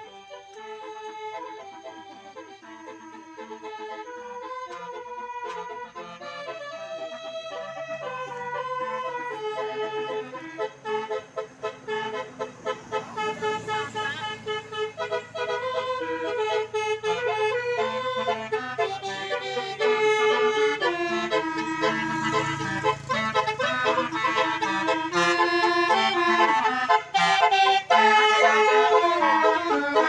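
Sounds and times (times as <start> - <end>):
musical bus horn melody: 0.0 - 30.0.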